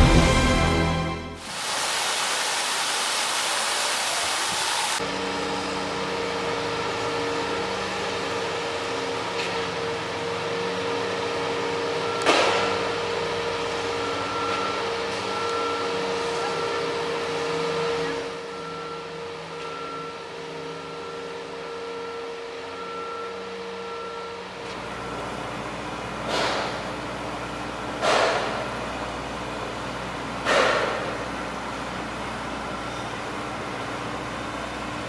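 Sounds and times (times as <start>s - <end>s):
construction machinery humming: 0.0s - 35.0s.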